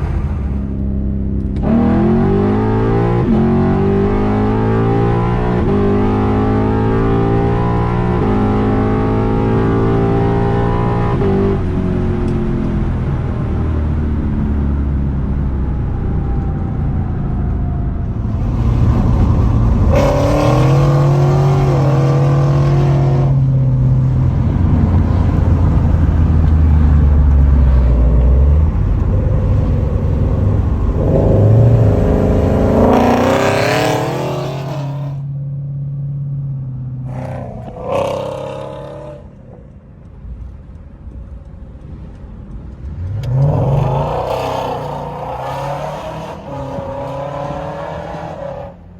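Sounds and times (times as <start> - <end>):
car engine revving: 0.0 - 13.0, 18.0 - 39.5, 42.8 - 48.9.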